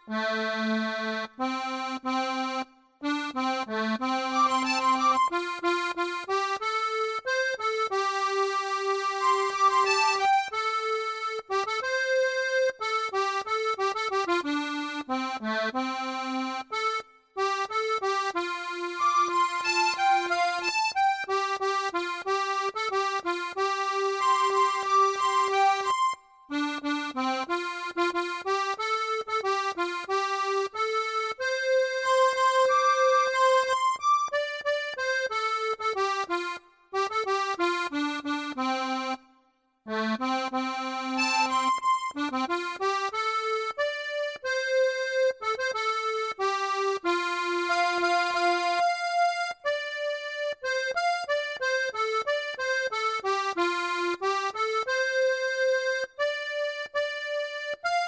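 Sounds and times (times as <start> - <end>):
accordion melody: 0.0 - 58.0.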